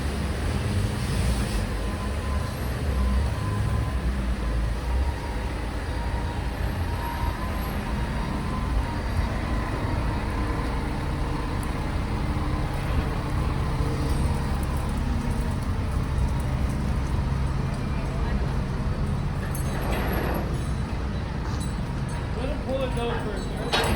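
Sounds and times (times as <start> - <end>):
low rumble of street traffic: 0.0 - 23.9.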